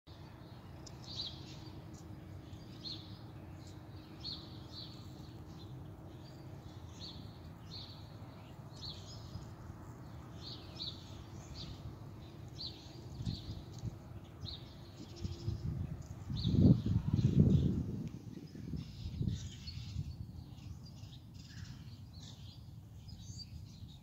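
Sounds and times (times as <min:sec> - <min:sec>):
small songbird chirping: 0:00.1 - 0:24.0.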